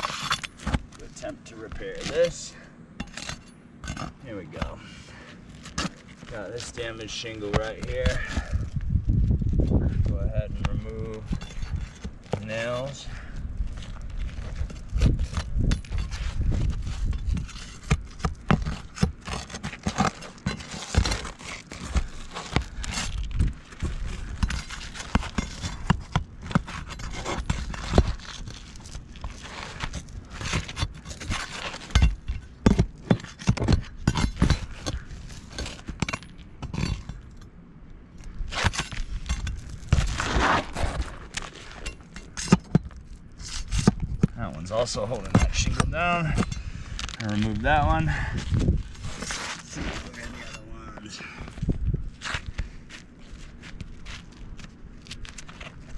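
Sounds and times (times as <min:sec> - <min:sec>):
hand tool scraping under shingles: 0:00.0 - 0:37.3, 0:38.3 - 0:55.9.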